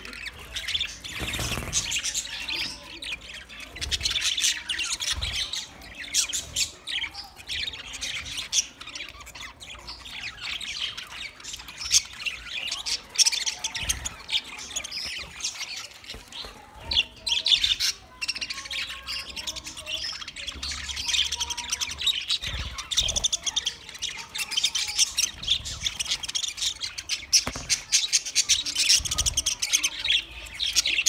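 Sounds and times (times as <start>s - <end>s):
budgerigars chirping and squawking: 0.0s - 31.0s.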